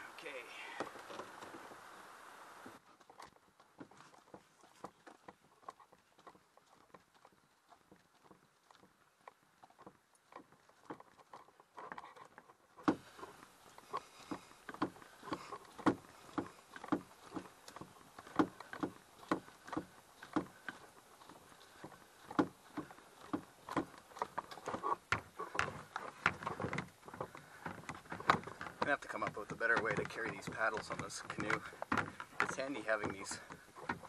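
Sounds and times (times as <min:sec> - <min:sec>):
paddles knocking against canoe hull: 0:00.6 - 0:01.8, 0:02.7 - 0:34.0.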